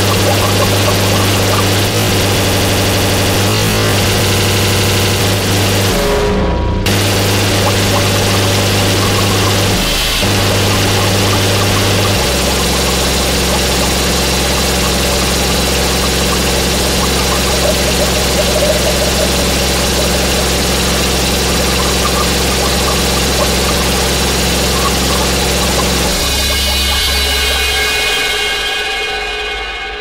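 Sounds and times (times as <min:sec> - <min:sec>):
distorted hiss: 0:00.0 - 0:06.2, 0:06.9 - 0:28.4
low droning tones: 0:00.0 - 0:29.3.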